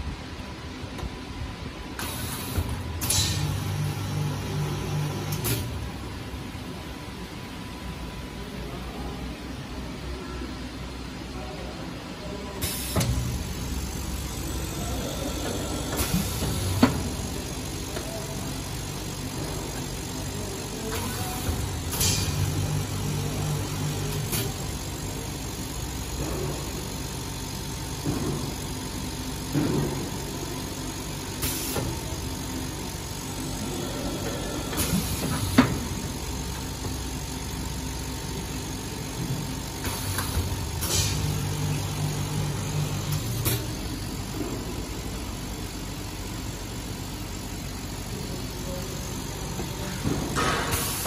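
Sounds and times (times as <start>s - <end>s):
machine motor hum: 0.0s - 51.0s.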